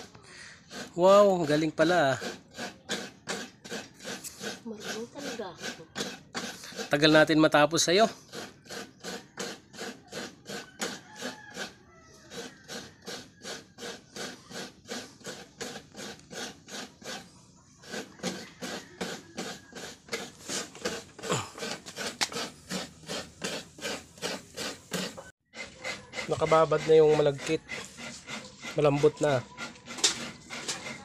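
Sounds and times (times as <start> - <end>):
coconut scraping on grater: 0.0 - 31.0.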